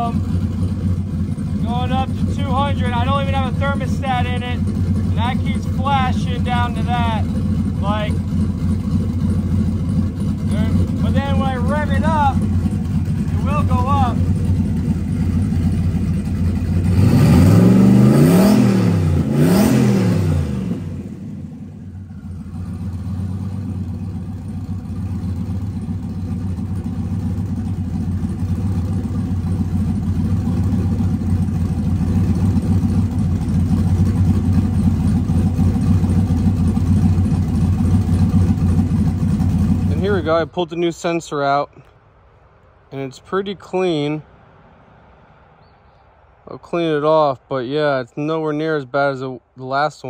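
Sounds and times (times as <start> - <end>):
engine revving and idling: 0.0 - 40.9.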